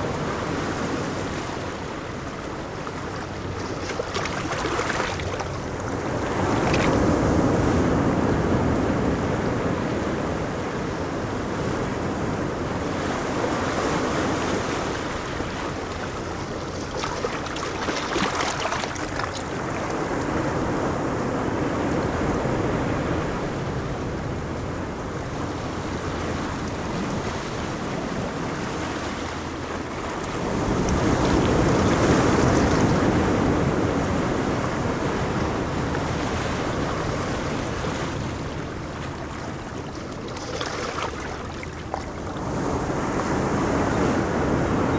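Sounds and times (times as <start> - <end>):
ocean waves breaking: 0.0 - 44.9
wind buffeting microphone: 0.0 - 44.9.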